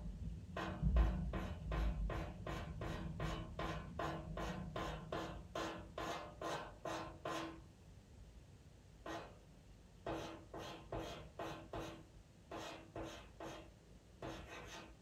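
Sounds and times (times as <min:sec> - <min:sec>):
pencil scratching on paper: 0:00.6 - 0:07.6, 0:09.1 - 0:09.4, 0:10.0 - 0:15.0.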